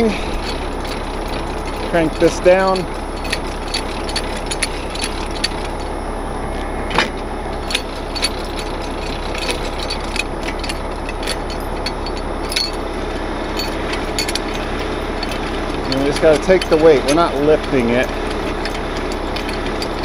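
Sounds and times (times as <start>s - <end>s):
hand crank clicks and knocks: 0.0s - 5.9s, 6.9s - 20.0s
diesel engine idling: 0.0s - 20.0s.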